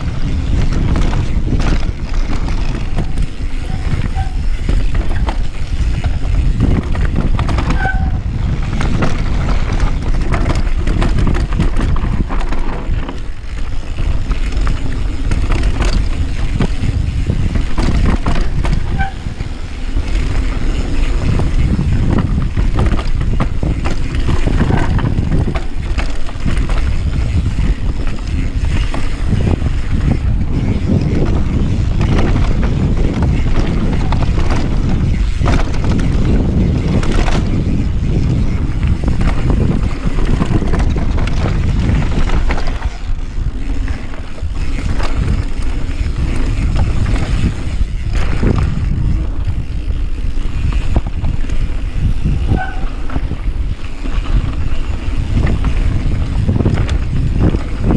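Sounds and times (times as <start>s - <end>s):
bike rattling on dirt trail: 0.0s - 57.9s
wind on microphone: 0.0s - 57.9s.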